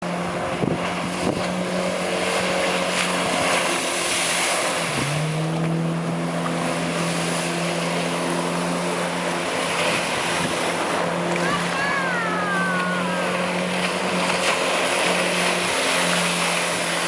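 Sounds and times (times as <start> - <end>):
jet ski engine running: 0.0 - 17.0
loud rushing water: 0.0 - 17.0.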